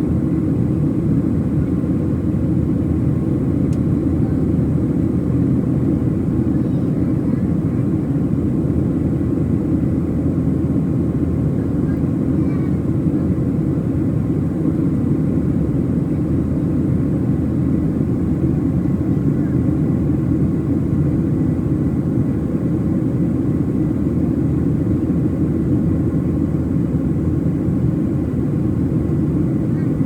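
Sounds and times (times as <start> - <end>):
airplane cabin engine drone: 0.0 - 30.0.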